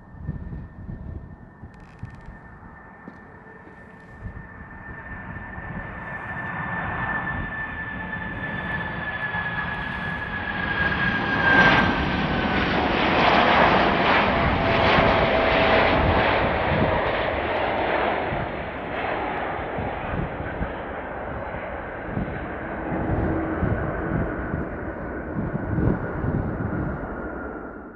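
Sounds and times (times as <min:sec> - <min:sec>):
high jet whine: 0:00.0 - 0:27.1
jet engines roaring: 0:00.0 - 0:27.9.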